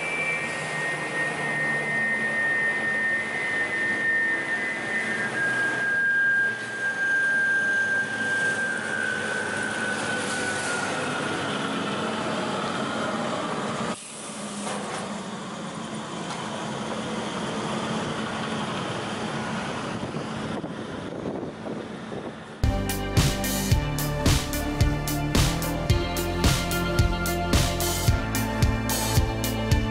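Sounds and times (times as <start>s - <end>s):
saw machine whine: 0.0s - 29.9s.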